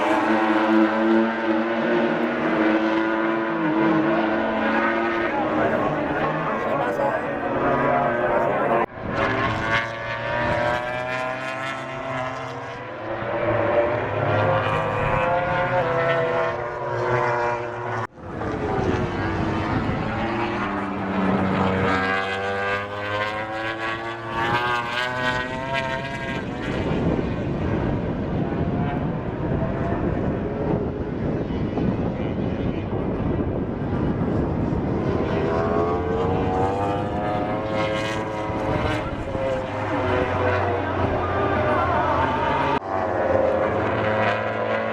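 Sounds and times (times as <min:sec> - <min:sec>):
racing motorcycles passing: 0:00.0 - 0:44.9.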